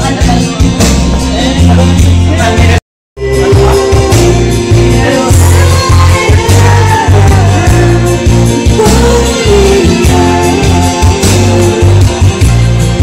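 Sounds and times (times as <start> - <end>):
heavy pulsing bass music: 0.0 - 13.0
karaoke singing: 0.0 - 13.0.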